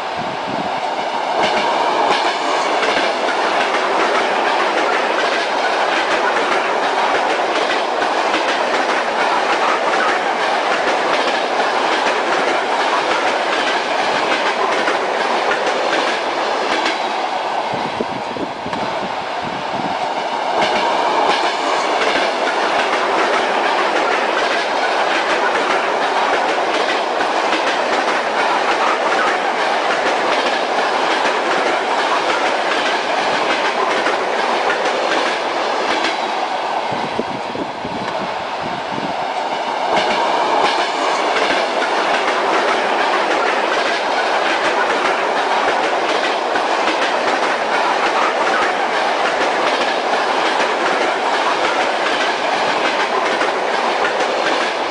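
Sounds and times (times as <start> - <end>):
railway carriage rumbling: 0.0 - 54.9
wheels clacking over rail joints: 1.4 - 17.0, 20.6 - 36.3, 39.8 - 54.9.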